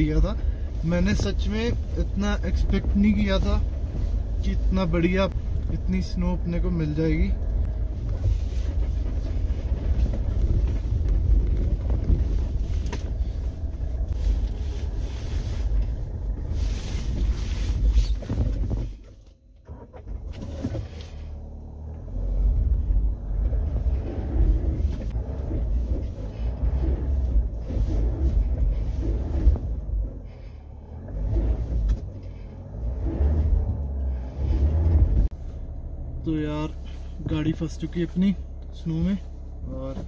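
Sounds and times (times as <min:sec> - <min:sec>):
car engine rumbling from inside: 0:00.0 - 0:40.0.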